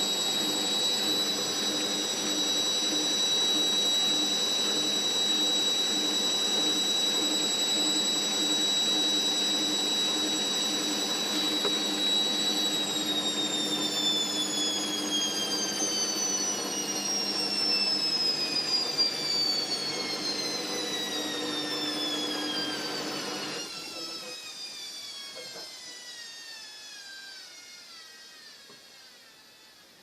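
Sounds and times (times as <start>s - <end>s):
washing machine motor hum: 0.0s - 24.3s
washing machine spin whine: 0.0s - 30.0s.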